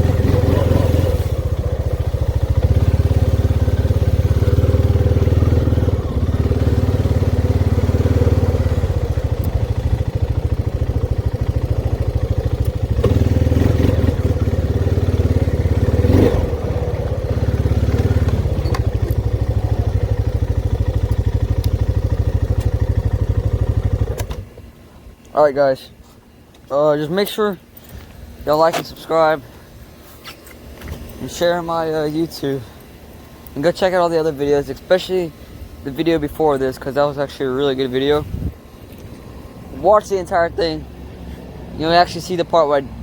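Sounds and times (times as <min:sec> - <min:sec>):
motorcycle engine running: 0:00.0 - 0:24.8, 0:30.6 - 0:43.0.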